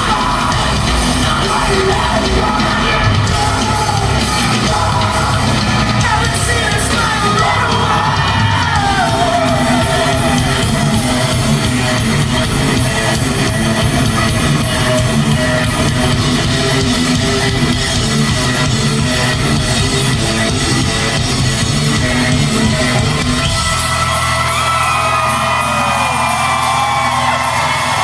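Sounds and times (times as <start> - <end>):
rock band playing live: 0.0 - 28.0
sung and yelled vocals: 0.0 - 28.0.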